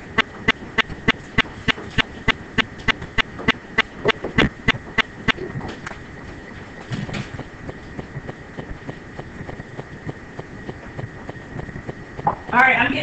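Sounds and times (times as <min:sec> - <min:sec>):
sharp rhythmic clicks: 0:00.0 - 0:13.0.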